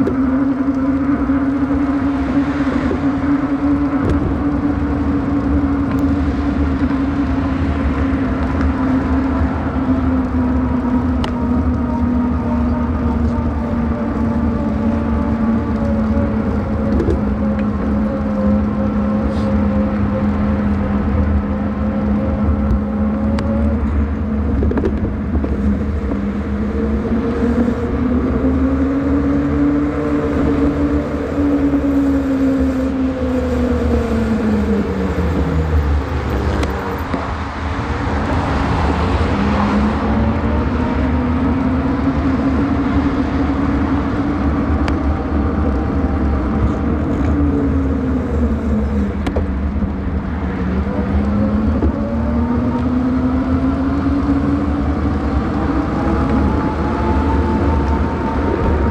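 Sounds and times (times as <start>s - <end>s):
wind rumble on microphone: 0.0s - 58.9s.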